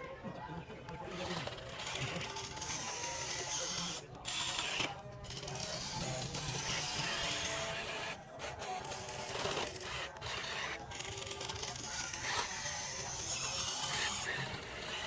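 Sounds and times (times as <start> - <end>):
model excavator scraping: 0.9 - 15.0.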